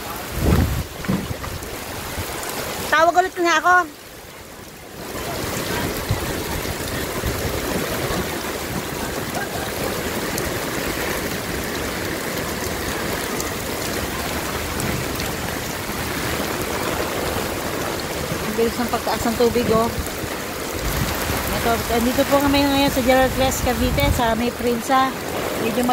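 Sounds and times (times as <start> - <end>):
floodwater rushing: 0.0 - 25.9
heavy rain: 0.0 - 25.9.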